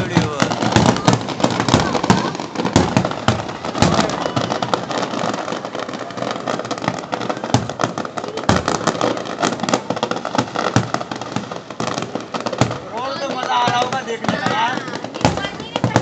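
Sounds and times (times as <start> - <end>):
fireworks crackling: 0.0 - 16.0
fireworks shells booming: 0.0 - 16.0.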